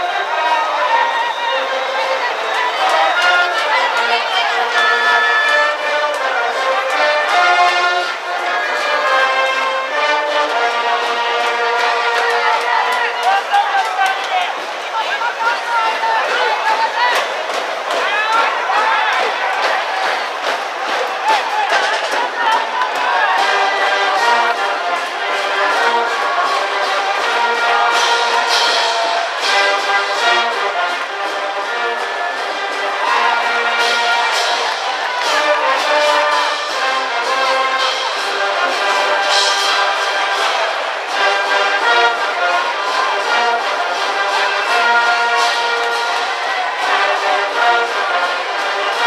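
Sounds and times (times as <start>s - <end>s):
brass band playing: 0.0s - 49.0s
steady drum beat: 0.0s - 49.0s
trumpets and trombones melody: 0.0s - 49.0s.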